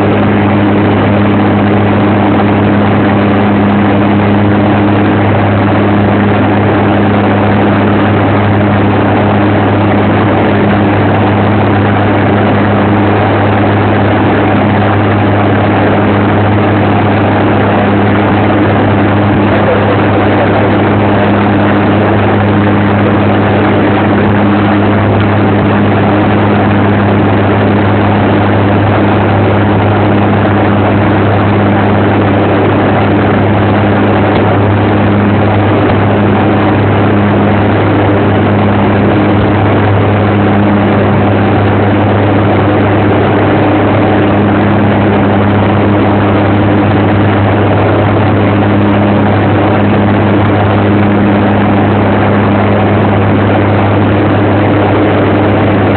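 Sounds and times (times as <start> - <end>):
aircraft engines droning: 0.0 - 55.9.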